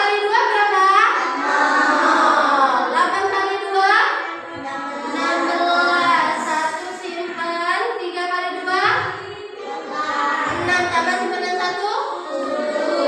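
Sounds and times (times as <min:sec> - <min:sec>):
young children singing: 0:00.0 - 0:07.4, 0:08.5 - 0:13.0.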